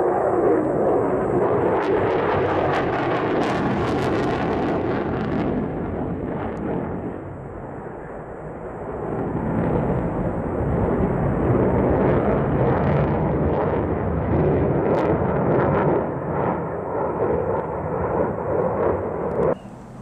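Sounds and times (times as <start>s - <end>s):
jet roaring past: 0.0s - 20.0s.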